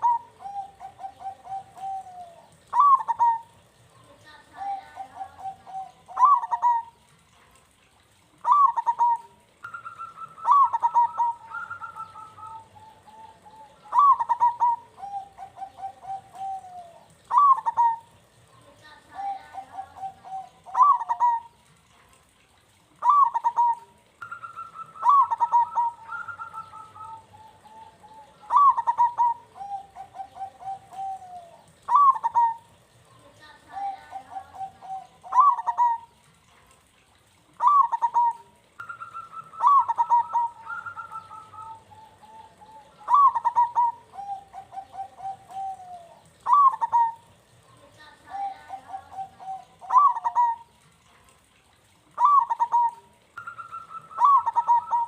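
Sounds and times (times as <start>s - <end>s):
dove cooing: 0.0s - 7.4s, 8.3s - 21.9s, 23.0s - 36.3s, 37.4s - 50.8s, 52.1s - 55.0s.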